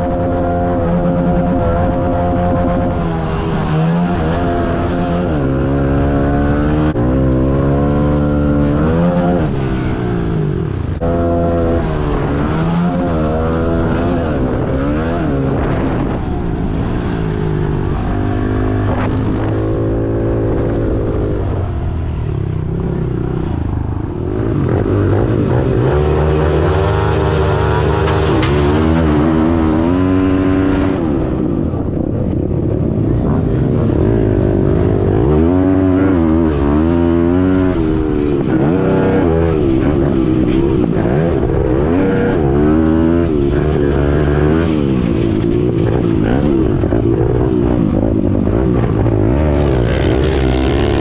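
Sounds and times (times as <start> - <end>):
pit bike engine revving: 0.0 - 51.0.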